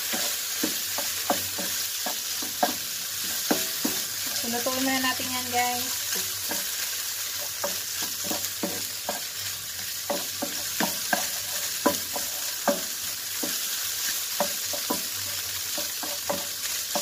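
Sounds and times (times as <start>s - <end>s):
meat sizzling in frying pan: 0.0s - 17.0s
spatula scraping and tapping pan: 0.0s - 17.0s.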